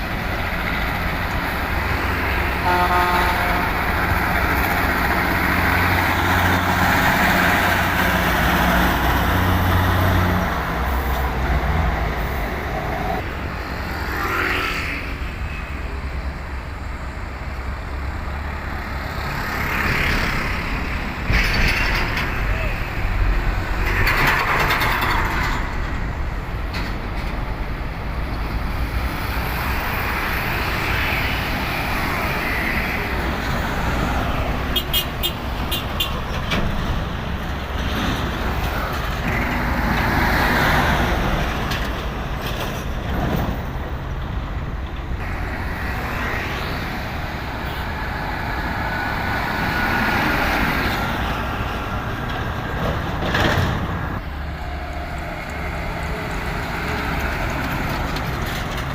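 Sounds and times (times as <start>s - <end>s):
trucks and vehicles passing: 0.0s - 58.9s.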